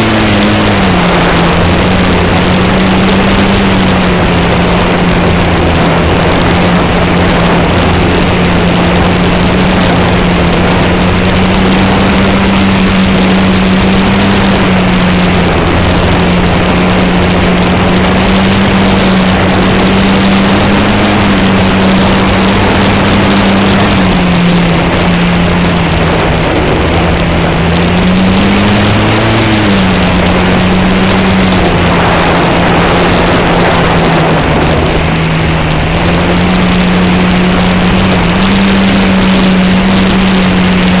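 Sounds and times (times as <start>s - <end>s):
electric motor and propeller drone: 0.0s - 41.0s
heavy wind rush: 0.0s - 41.0s.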